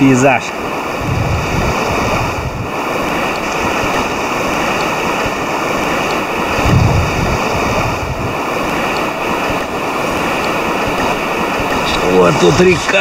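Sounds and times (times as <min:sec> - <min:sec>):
river rushing over gravel: 0:00.0 - 0:13.0
wind buffeting microphone: 0:00.0 - 0:13.0.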